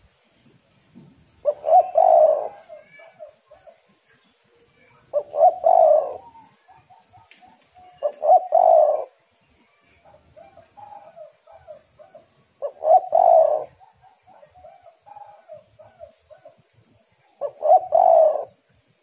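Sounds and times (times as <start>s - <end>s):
dove cooing: 1.4s - 3.9s, 5.0s - 9.2s, 10.0s - 18.7s.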